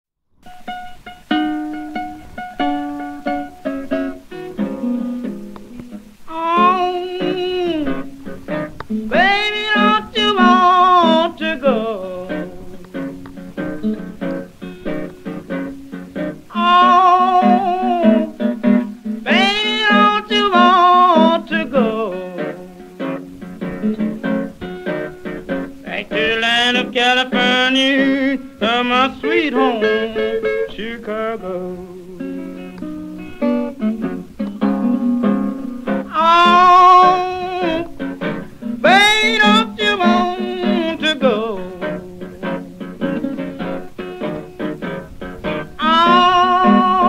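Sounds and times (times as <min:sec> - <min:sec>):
acoustic guitar picking: 0:00.4 - 0:47.0
plucked string melody: 0:00.4 - 0:47.0
person singing: 0:03.6 - 0:13.5, 0:16.2 - 0:23.2, 0:24.9 - 0:47.0.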